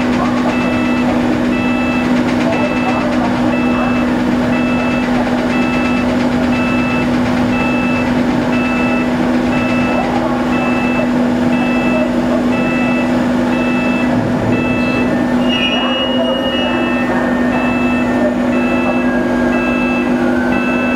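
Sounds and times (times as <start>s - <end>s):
electronic warning beeps: 0.0s - 20.9s
low machinery hum: 0.0s - 20.9s.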